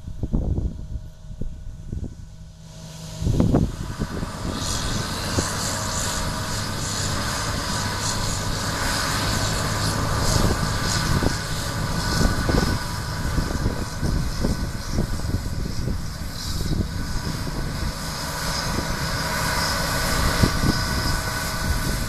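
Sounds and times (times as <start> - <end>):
heavy diesel drone: 0.0 - 22.0
threshing machinery whir: 0.6 - 22.0.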